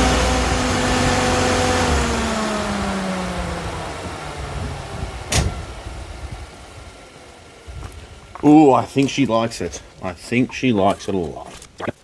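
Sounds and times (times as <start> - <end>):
engine running toward idle: 0.0 - 10.0.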